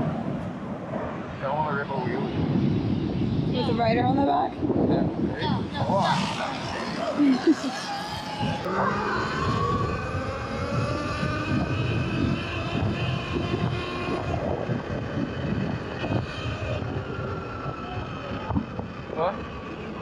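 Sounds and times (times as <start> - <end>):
wind rumble on microphone: 0.0 - 20.0
electric motorbike motor whining: 2.5 - 20.0.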